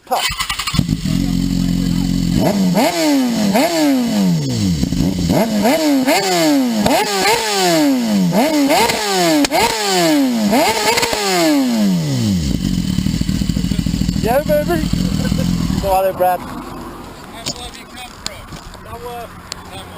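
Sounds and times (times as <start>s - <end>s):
motorcycle engine revving: 0.0s - 17.7s.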